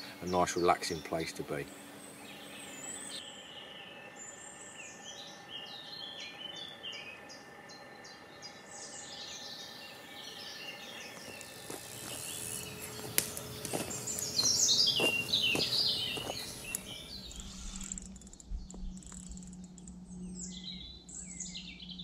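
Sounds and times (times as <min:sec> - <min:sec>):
small birds singing: 0:00.0 - 0:22.0.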